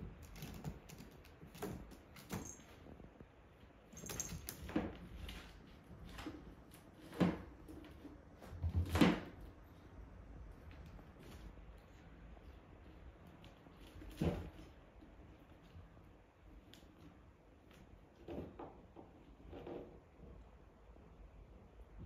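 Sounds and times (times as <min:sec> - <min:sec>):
kittens scampering on tile floor: 0:00.0 - 0:19.8.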